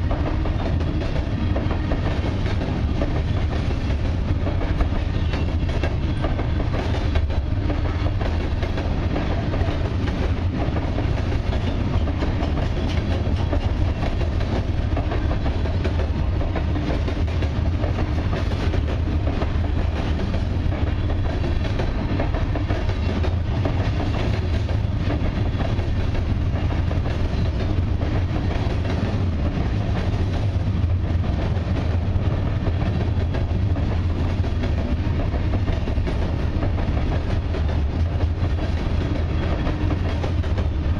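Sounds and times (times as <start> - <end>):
freight train rumbling past: 0.0 - 40.9
wheels clattering over rails: 0.0 - 40.9.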